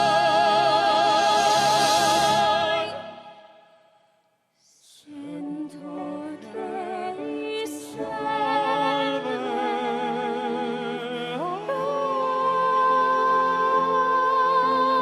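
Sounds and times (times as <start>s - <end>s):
classical singing with vibrato: 0.0s - 3.6s, 4.8s - 15.0s.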